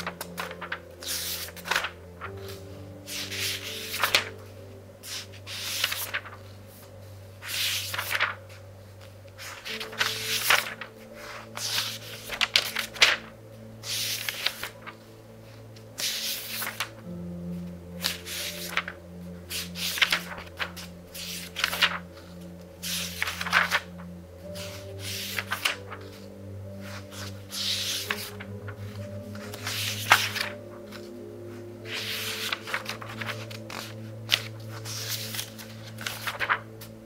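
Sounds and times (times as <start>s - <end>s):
book pages turning: 0.0s - 37.0s
soft music with low notes: 0.0s - 37.0s.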